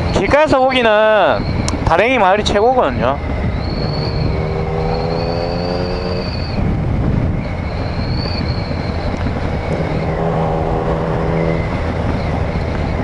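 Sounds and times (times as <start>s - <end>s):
wind and road noise: 0.0s - 13.0s
motorcycle engine cruising: 1.4s - 13.0s.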